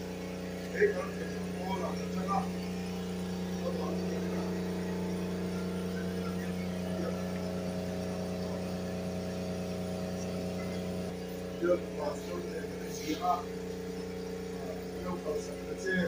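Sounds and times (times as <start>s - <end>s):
hum of held low tones: 0.0s - 16.0s.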